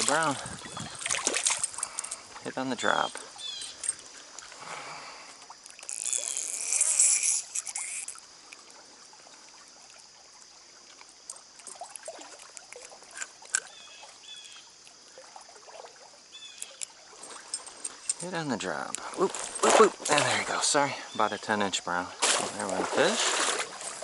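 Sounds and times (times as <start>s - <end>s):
stream water running: 0.0s - 24.0s
water splashing: 0.0s - 24.0s.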